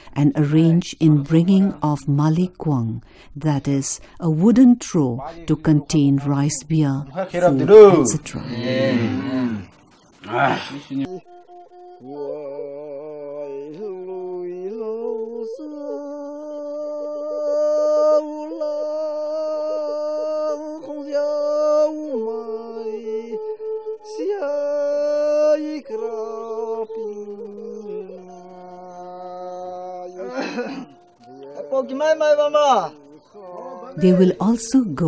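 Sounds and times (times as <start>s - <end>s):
voices singing long notes: 5.6s - 35.0s.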